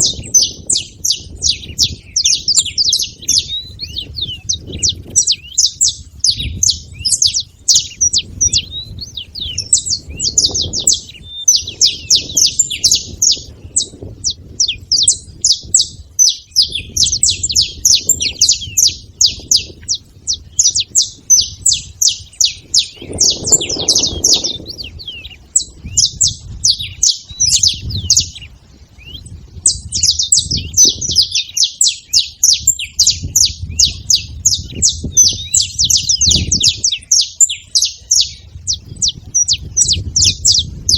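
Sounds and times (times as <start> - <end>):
finch singing high chirps: 0.0 - 40.9.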